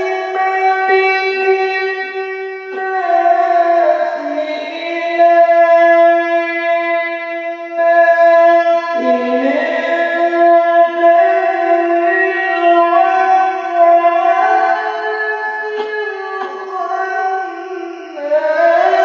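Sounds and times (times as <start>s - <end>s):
man chanting through microphone: 0.0s - 19.0s.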